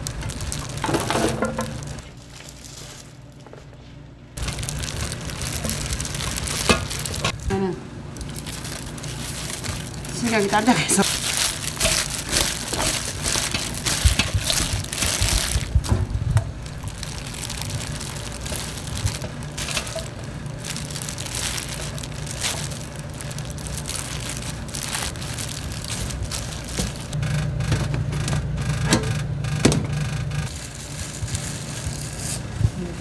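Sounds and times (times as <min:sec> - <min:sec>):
food being tossed and mixed: 0:00.0 - 0:03.6, 0:04.4 - 0:07.5, 0:08.2 - 0:27.2, 0:30.5 - 0:33.0
steady low hum: 0:00.0 - 0:33.0.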